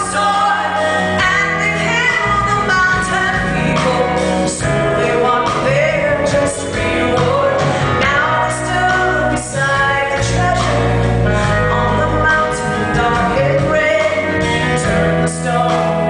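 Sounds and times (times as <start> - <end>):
live band with singers: 0.0 - 16.0.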